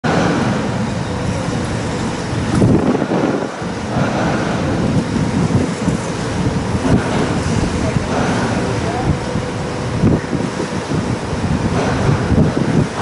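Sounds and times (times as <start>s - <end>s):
faint machinery hum: 0.0s - 13.0s
steady low rumble: 0.0s - 13.0s
wind buffeting microphone: 0.0s - 13.0s.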